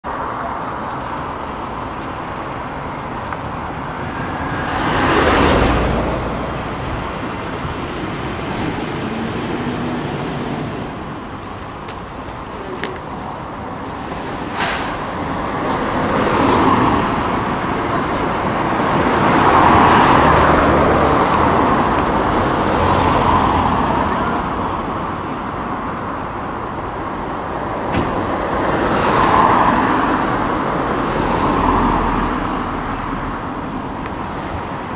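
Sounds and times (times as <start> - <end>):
background traffic noise: 0.0 - 34.9
cars passing: 0.0 - 34.9.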